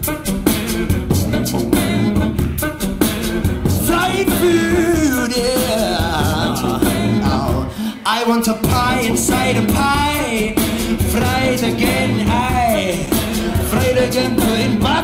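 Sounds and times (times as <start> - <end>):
looped beatboxed beat: 0.0 - 15.0
wordless singing with vibrato: 0.0 - 15.0.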